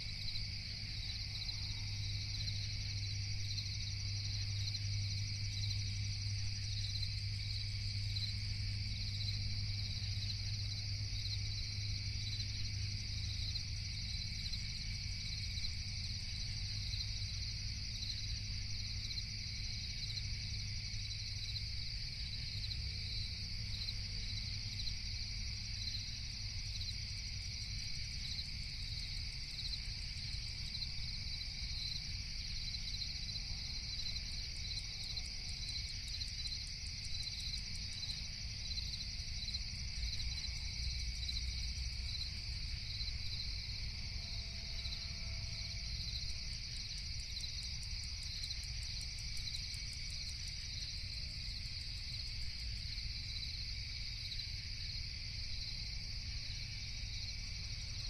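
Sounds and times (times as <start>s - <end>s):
crickets chirping: 0.0s - 58.0s
low steady hum: 0.0s - 58.0s.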